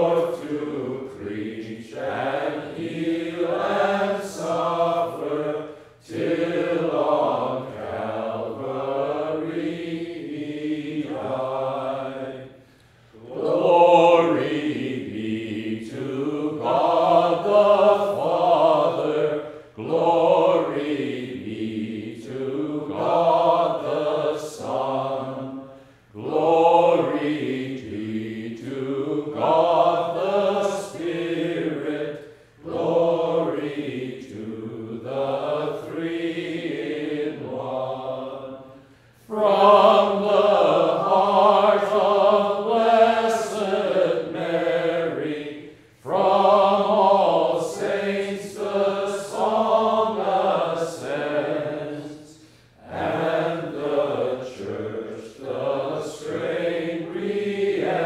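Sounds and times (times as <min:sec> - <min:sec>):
priest and congregation chanting: 0:00.0 - 0:58.0.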